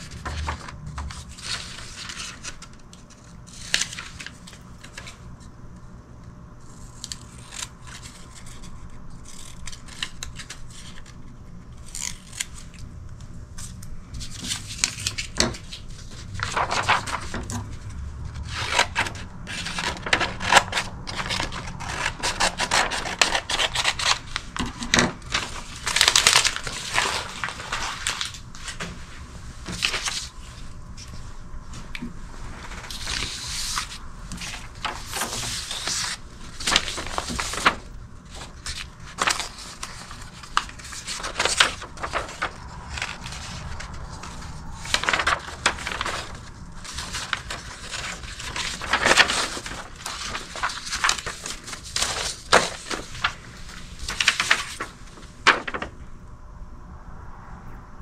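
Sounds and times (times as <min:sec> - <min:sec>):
crackling and crinkling: 0:00.0 - 0:05.9, 0:06.6 - 0:56.1.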